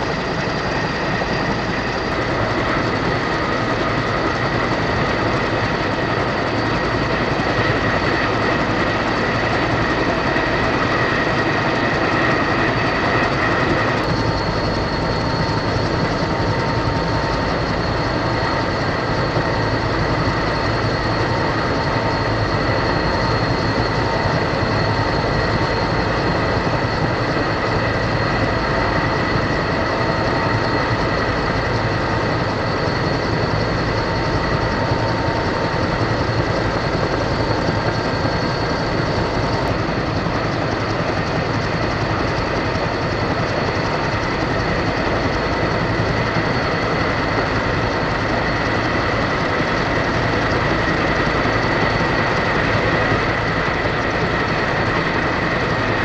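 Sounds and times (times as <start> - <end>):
high turbine whine: 0.0 - 56.0
jet engine roar: 0.0 - 56.0.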